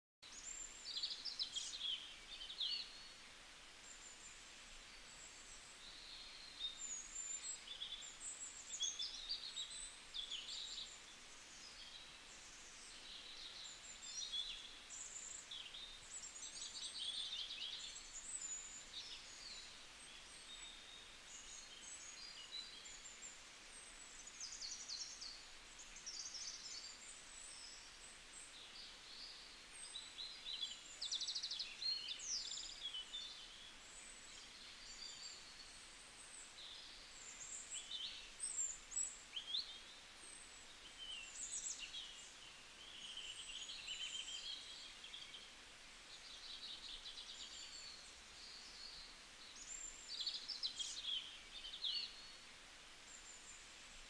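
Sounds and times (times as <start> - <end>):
faint steady hiss: 0.2 - 54.0.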